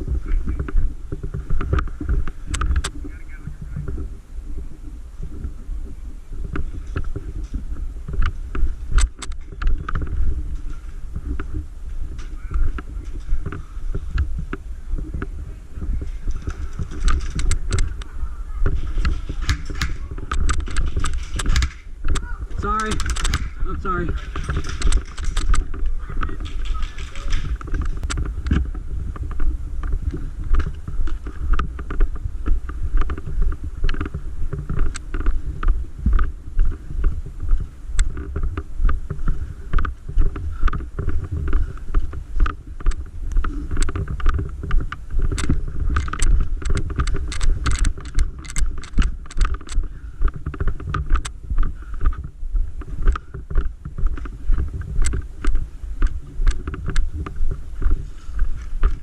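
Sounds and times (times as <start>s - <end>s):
gear knocking and clicking: 0.0s - 4.1s, 6.4s - 59.0s
walking footsteps: 0.0s - 59.0s
wind rumble on microphone: 0.0s - 59.0s.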